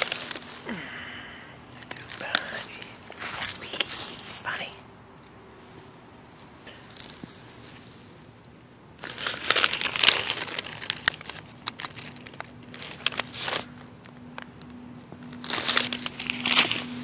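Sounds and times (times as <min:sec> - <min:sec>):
dry leaves crackling: 0:00.0 - 0:17.0.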